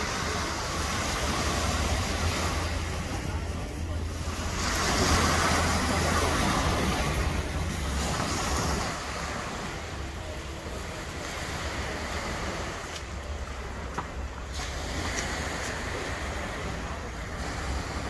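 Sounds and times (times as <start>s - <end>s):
small waves washing onto beach: 0.0s - 18.0s.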